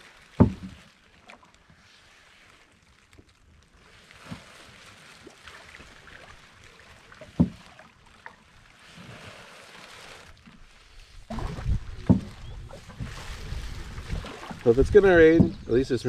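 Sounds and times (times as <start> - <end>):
paddle swishing water: 0.0 - 16.0.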